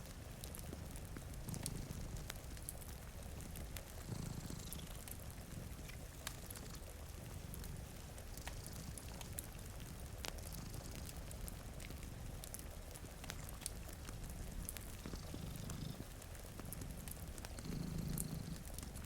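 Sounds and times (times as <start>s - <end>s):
cat purring: 0.0s - 19.0s
rain hiss: 0.0s - 19.0s
wood fire crackling: 0.0s - 19.0s.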